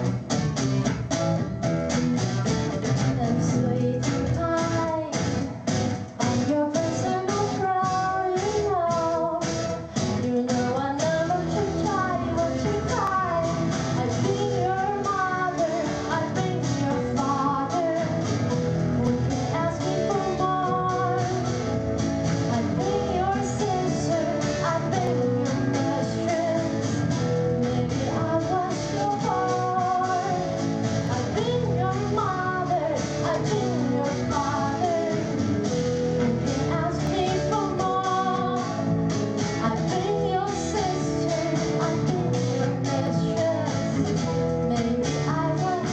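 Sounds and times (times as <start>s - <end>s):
guitar and band backing: 0.0s - 45.9s
woman singing pop-rock ballad: 3.1s - 45.9s.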